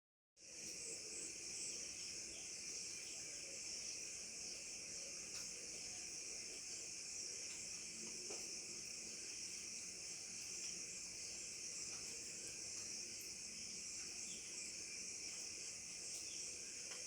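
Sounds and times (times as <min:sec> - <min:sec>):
insect chorus trilling: 0:00.4 - 0:17.0.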